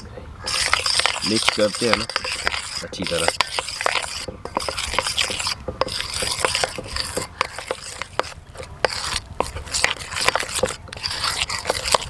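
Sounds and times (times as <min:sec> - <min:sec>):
spoon scraping steel bowl: 0:00.4 - 0:12.0
spoon stirring batter: 0:00.4 - 0:12.0.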